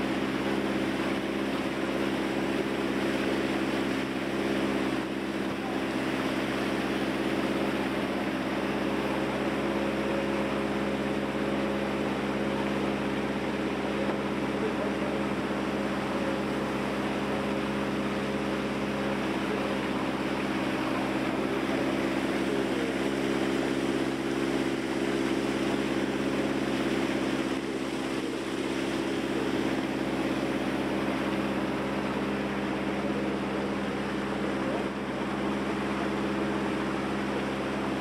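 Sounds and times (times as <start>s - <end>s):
boat engine drone: 0.0s - 38.0s
rushing water: 0.0s - 38.0s
wind: 0.0s - 38.0s.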